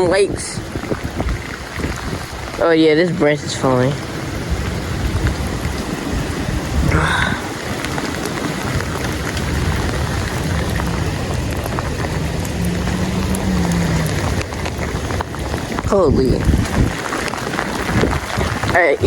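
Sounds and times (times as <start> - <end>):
wind-driven rain: 0.0 - 19.0.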